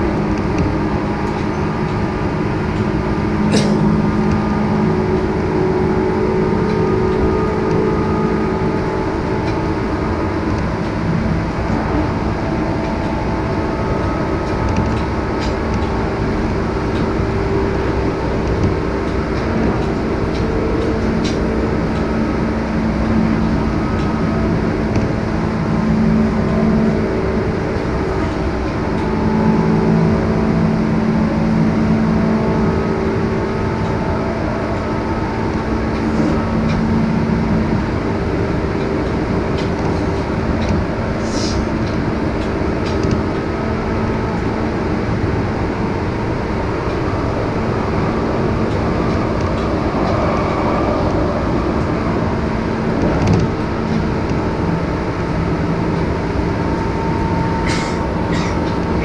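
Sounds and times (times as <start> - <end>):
low hum: 0.0 - 59.0
train wheels rumbling on rail: 0.0 - 59.0.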